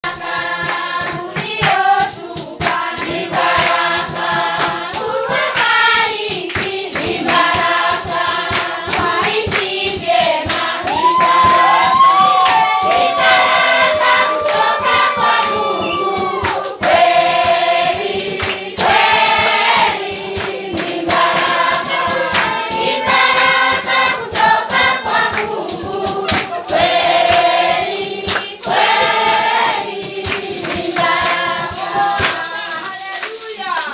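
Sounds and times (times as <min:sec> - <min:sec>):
group singing in chorus: 0:00.0 - 0:33.9
sharp percussive strokes: 0:00.0 - 0:33.9.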